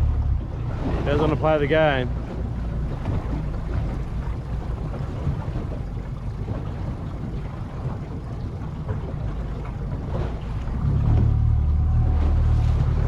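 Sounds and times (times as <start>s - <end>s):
low steady rumble: 0.0s - 13.0s
water against hull: 0.0s - 13.0s
wind buffeting microphone: 0.0s - 13.0s.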